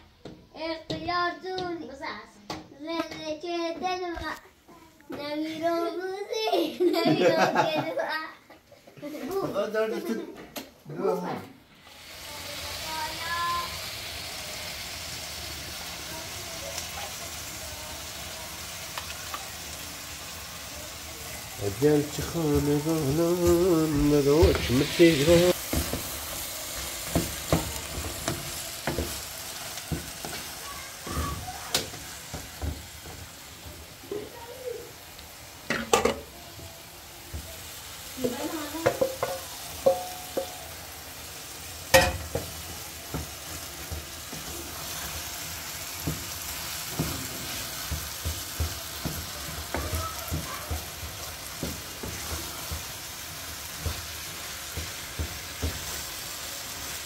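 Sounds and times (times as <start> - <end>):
chicken sizzling in a frying pan: 11.0 - 57.0.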